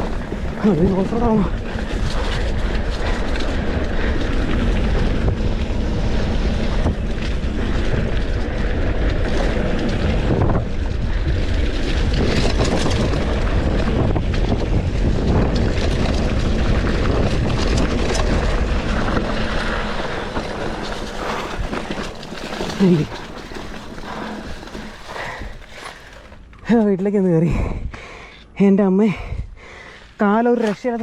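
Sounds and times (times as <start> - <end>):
wind buffeting microphone: 0.0 - 26.2, 27.4 - 28.1, 29.1 - 31.0
bike rolling over rough ground: 0.0 - 27.9, 30.1 - 31.0.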